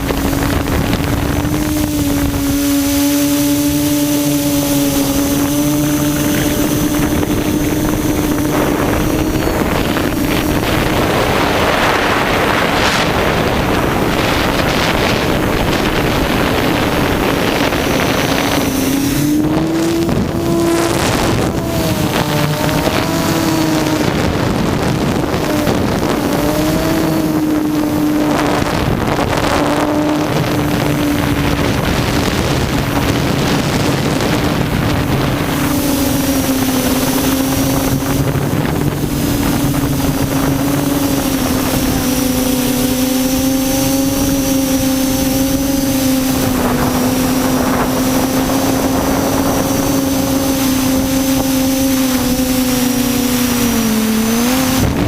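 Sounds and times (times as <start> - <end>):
drone propellers humming: 0.0 - 55.0
wind noise on microphone: 0.0 - 55.0.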